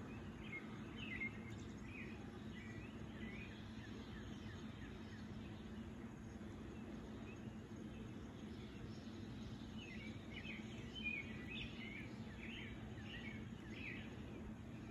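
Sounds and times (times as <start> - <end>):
birds chirping: 0.0 - 14.9
low background noise: 0.0 - 14.9.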